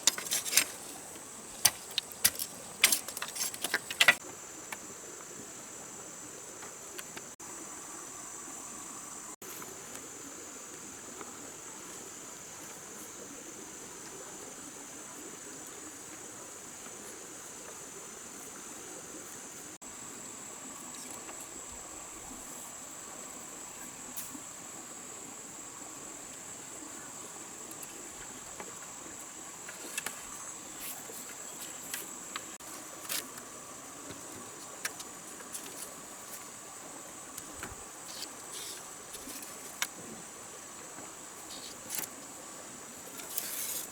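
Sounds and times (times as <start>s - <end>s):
high-pitched insect chorus: 0.0s - 43.9s
lower-pitched insect layer: 0.0s - 43.9s.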